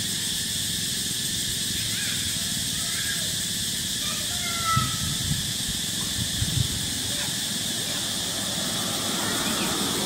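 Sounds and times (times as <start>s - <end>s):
high outdoor hiss: 0.0s - 10.0s.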